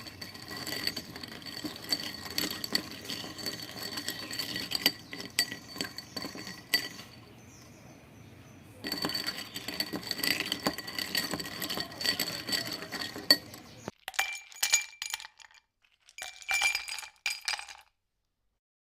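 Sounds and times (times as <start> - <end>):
ice cubes clinking in glass: 0.0 - 7.3, 8.8 - 18.0.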